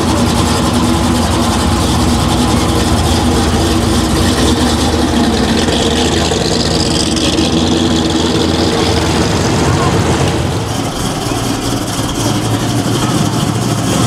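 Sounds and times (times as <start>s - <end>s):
car engine running at low revs: 0.0s - 14.0s.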